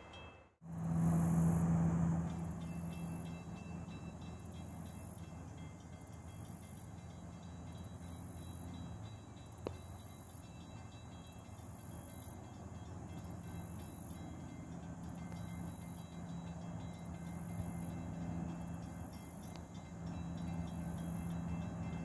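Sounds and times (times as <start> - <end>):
distant train rumble: 0.0 - 22.0.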